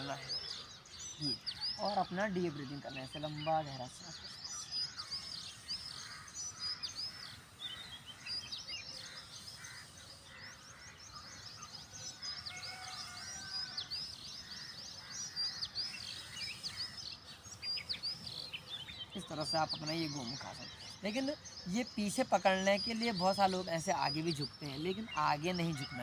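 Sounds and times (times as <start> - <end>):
faint background noise: 0.0 - 26.0
small birds chirping: 0.0 - 26.0.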